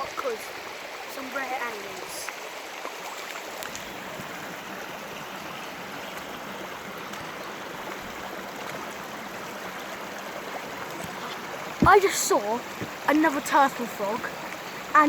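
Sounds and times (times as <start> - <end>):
stream water running over stones: 0.0 - 15.0.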